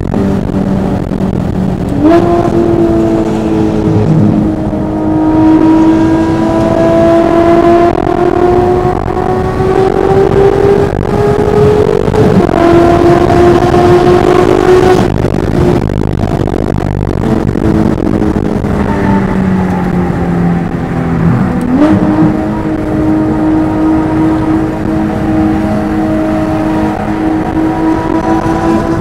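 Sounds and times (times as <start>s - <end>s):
car engine under load: 0.0s - 29.0s.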